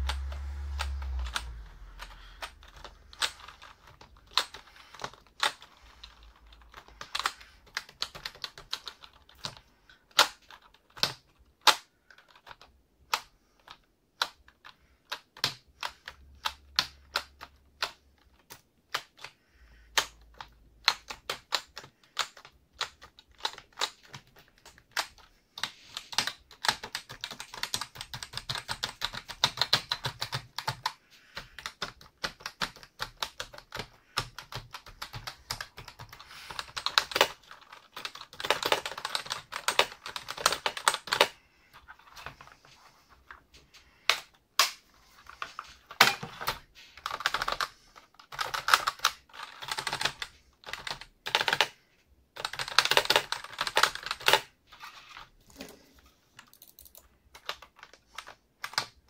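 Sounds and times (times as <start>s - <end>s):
keyboard typing: 0.0s - 42.7s, 45.2s - 55.8s, 56.4s - 59.0s.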